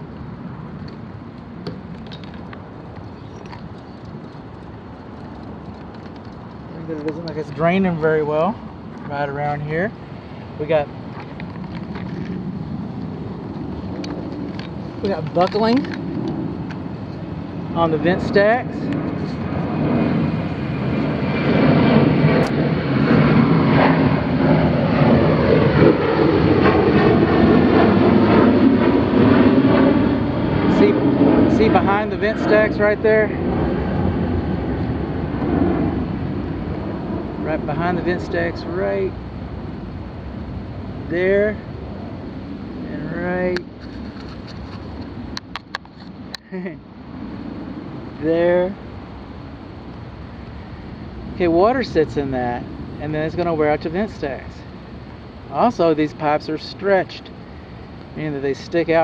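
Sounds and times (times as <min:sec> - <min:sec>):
aircraft engine drone overhead: 0:00.0 - 0:59.0
low outdoor rumble: 0:00.0 - 0:59.0.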